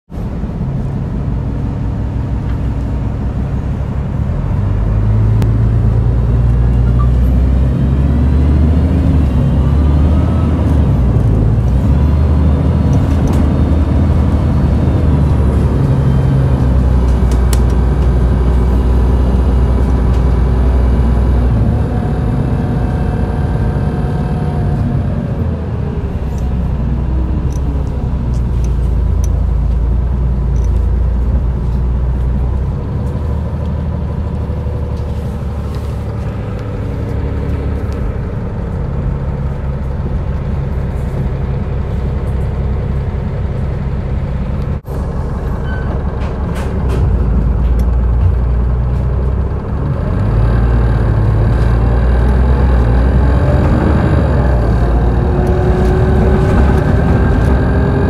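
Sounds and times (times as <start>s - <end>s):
diesel bus engine idling: 0.1s - 58.0s.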